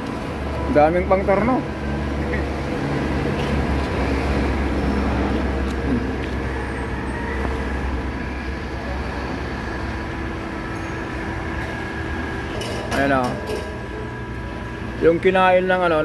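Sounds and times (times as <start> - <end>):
motors humming and rumbling: 0.0 - 16.0.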